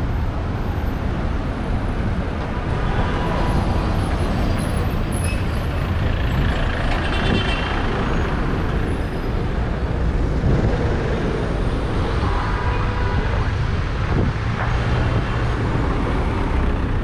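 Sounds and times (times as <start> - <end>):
bus engine rumbling: 0.0 - 17.0
cars passing: 0.0 - 17.0.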